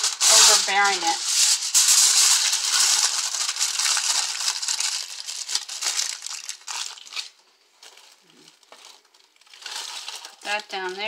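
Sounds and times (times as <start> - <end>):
wrapping crumpling: 0.0 - 11.0.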